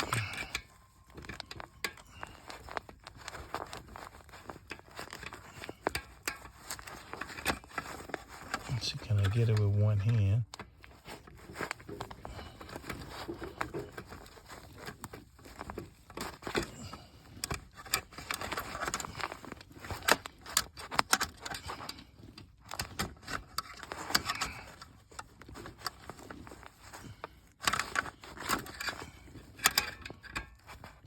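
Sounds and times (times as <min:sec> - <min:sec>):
rustling: 0:00.0 - 0:31.0.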